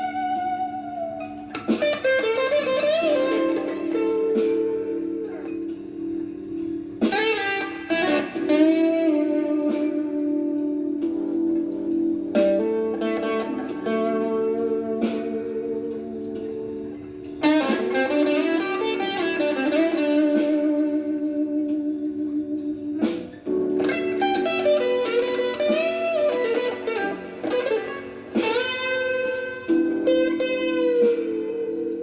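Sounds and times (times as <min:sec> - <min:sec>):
electric guitar playing blues: 0:00.0 - 0:32.0.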